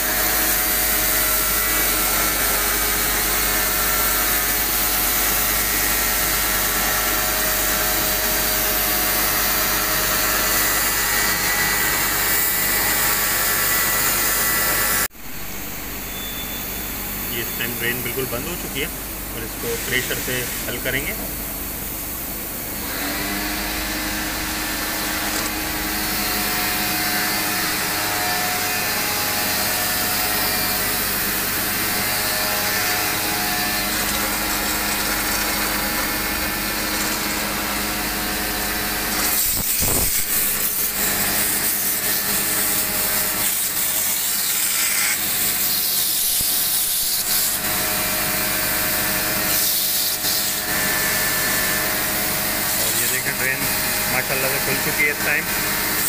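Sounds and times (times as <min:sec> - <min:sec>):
pressure washer motor hum: 0:00.0 - 0:15.1, 0:17.5 - 0:56.0.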